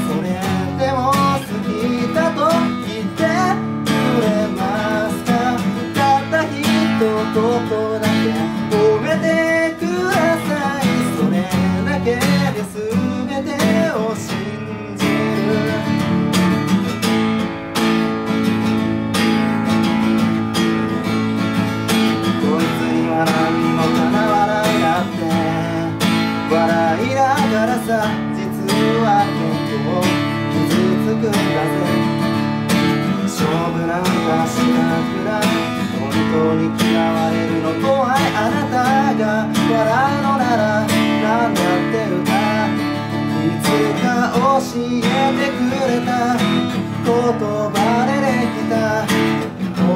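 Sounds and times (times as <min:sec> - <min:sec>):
person singing: 0:00.0 - 0:17.1, 0:17.9 - 0:49.9
acoustic guitar strumming: 0:00.0 - 0:49.9.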